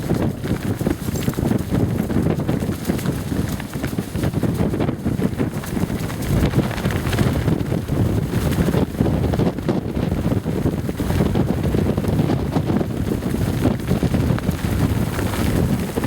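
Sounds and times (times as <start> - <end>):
trousers flapping in wind: 0.0 - 16.0
wind buffeting microphone: 0.0 - 16.0.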